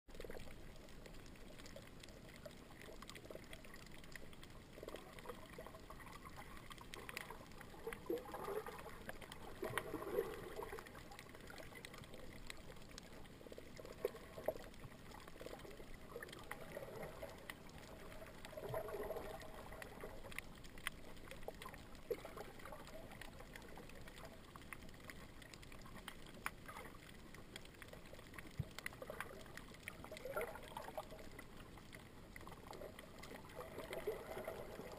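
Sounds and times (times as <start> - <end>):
small clicks: 0.1 - 34.9
water gurgling: 0.1 - 34.9.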